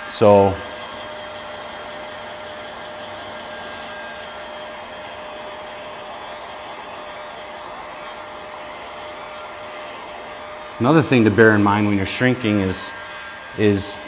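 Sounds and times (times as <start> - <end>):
heat gun blowing with whine: 0.0 - 14.0.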